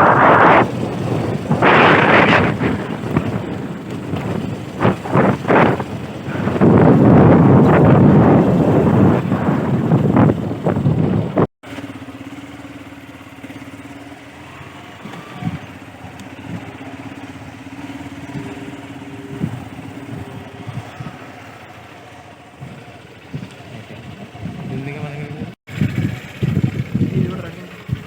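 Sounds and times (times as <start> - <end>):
engine running: 0.0 - 28.0
higher engine note: 0.0 - 28.0.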